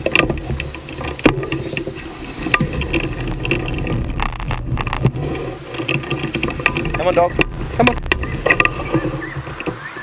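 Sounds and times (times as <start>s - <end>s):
frame and cables rattling: 0.0s - 10.0s
low rolling rumble: 0.0s - 10.0s.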